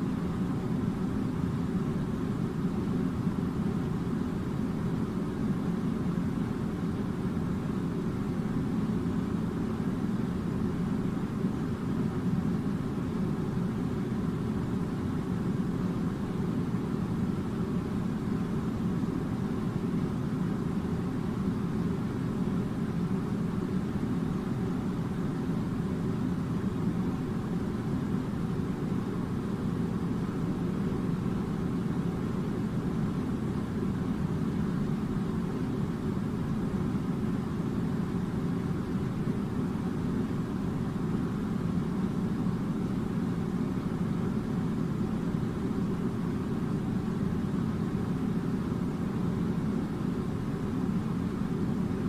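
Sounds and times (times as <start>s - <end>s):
faint steady tone: 0.0s - 52.0s.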